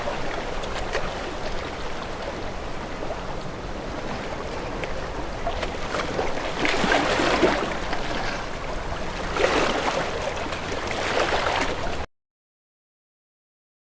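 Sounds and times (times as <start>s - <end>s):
waves splashing against boat hull: 0.0s - 12.1s.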